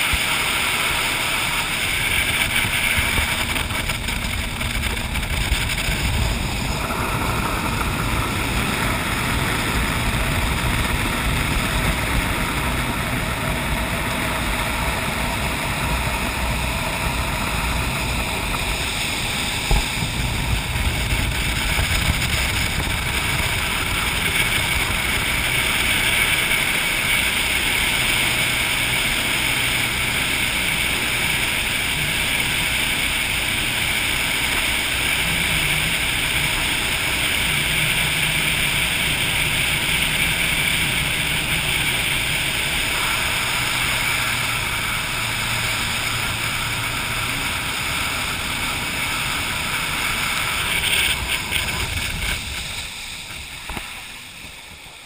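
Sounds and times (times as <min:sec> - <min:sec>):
boat engine: 0:00.0 - 0:55.0
wind on camera: 0:00.0 - 0:55.0.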